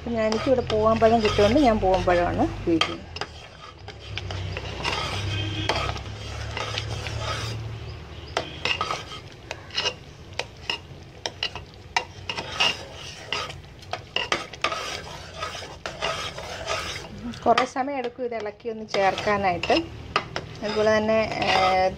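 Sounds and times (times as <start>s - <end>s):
metal ladle scraping pot: 0.0s - 21.9s.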